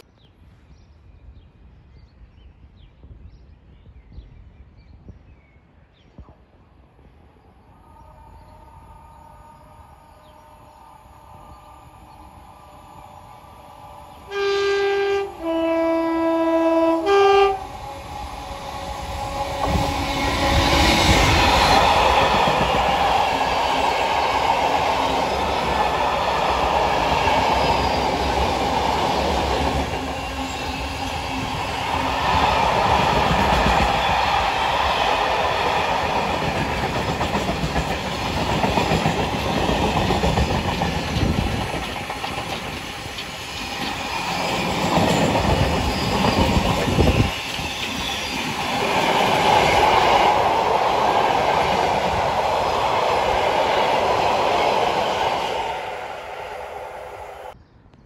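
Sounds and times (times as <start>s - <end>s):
freight train wheels rumbling: 7.8s - 57.6s.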